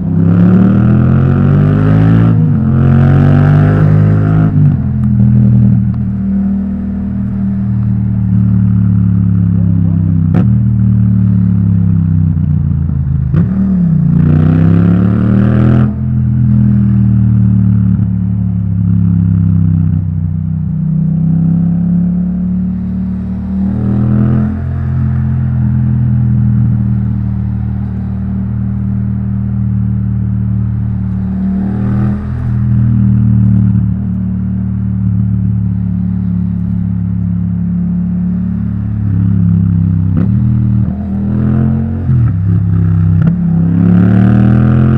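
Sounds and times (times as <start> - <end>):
motorcycle engine riding: 0.0 - 44.9.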